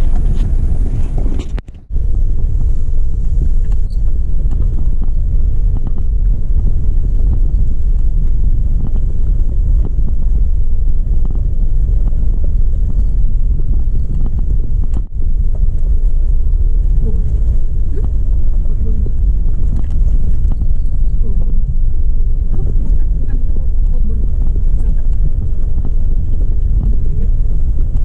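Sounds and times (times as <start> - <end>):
car cabin rumble: 0.0 - 28.0.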